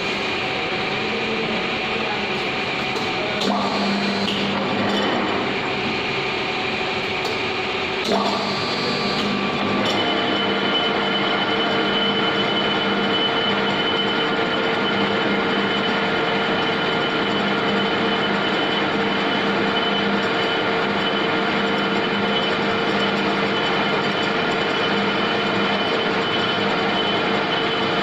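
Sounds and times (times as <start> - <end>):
lathe humming and whining: 0.0 - 28.0.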